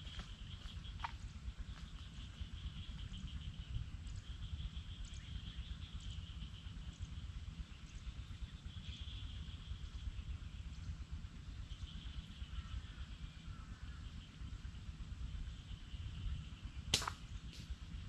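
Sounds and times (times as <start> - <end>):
insects chirring: 0.0 - 18.0
wind rumble on microphone: 0.0 - 18.0.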